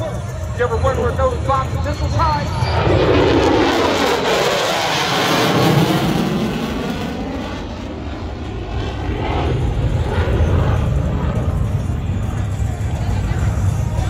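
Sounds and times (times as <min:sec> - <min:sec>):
jet fighter passing: 0:00.6 - 0:13.7.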